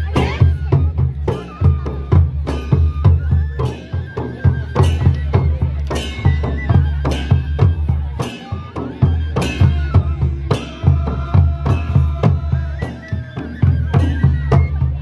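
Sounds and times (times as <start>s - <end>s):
drums beating steady rhythm: 0.0s - 15.0s.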